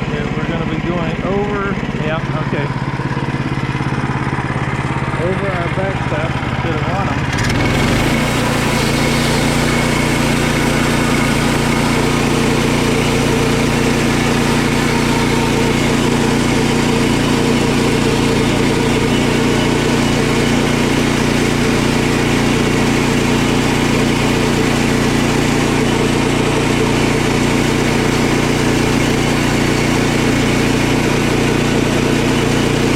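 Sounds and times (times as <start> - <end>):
saw blade cutting log: 0.0 - 32.9
sawmill engine running: 0.0 - 32.9.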